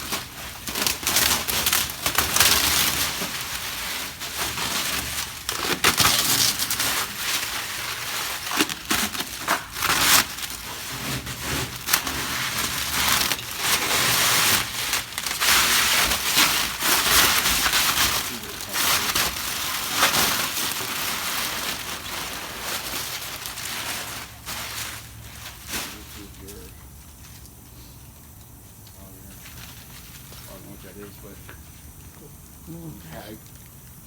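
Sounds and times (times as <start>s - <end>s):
packaging wrap crinkling: 0.0s - 34.0s.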